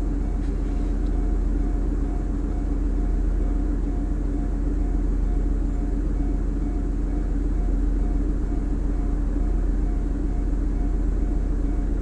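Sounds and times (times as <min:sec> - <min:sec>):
level-crossing alarm dinging: 0:01.3 - 0:12.0.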